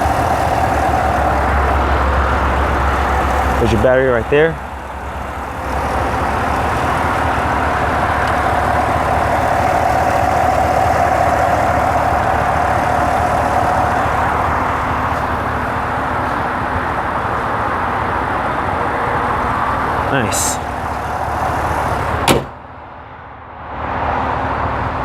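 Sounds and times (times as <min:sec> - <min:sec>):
car engine idling: 0:00.0 - 0:23.4
steady engine whine: 0:00.0 - 0:25.0.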